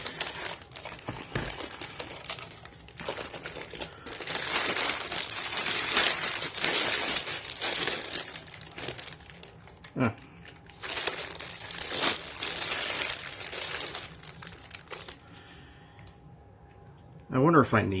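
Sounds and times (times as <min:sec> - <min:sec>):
plastic wrapping crinkling: 0:00.0 - 0:15.5.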